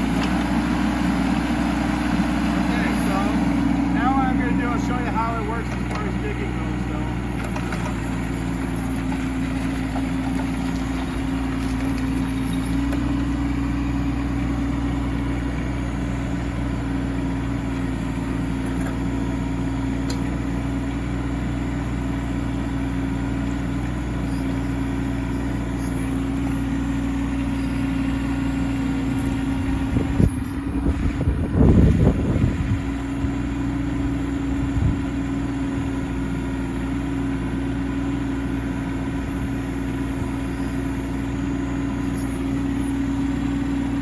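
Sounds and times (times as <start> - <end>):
excavator engine running: 0.0 - 44.0.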